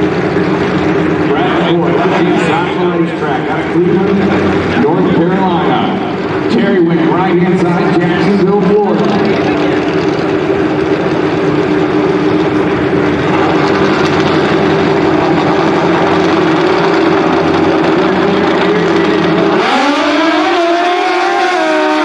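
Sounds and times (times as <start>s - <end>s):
motorcycle engines revving: 0.0s - 22.0s
motorcycles launching: 0.0s - 22.0s.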